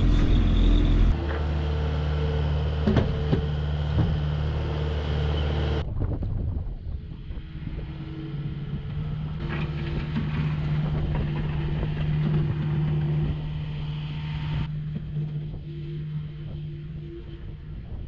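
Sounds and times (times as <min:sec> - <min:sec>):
farm vehicle engine running: 0:00.0 - 0:05.8, 0:07.1 - 0:18.0.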